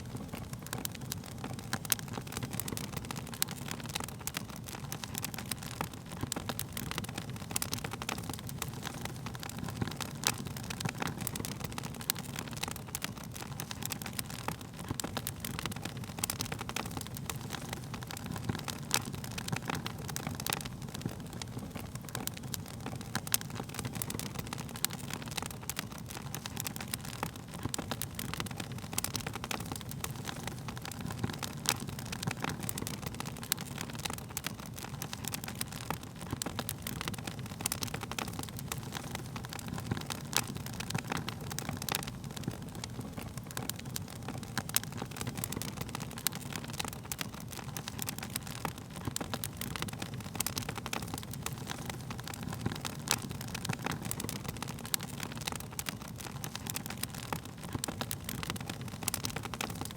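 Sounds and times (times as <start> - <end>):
burning wood popping and snapping: 0.0 - 59.9
low rush of flames: 0.0 - 59.9.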